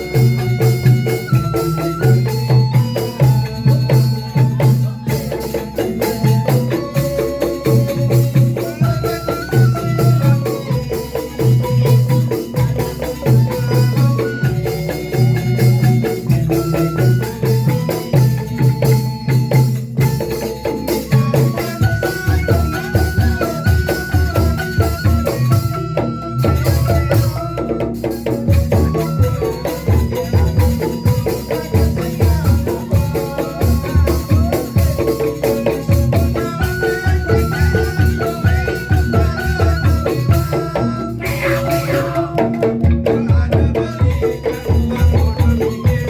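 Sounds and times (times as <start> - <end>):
instrumental melody: 0.0 - 46.0
percussion beat with rattling: 0.0 - 46.0.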